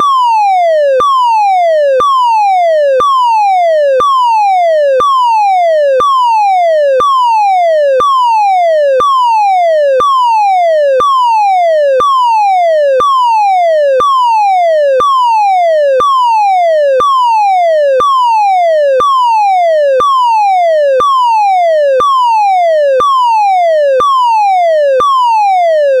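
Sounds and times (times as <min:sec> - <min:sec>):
falling electronic alarm tone: 0:00.0 - 0:26.0.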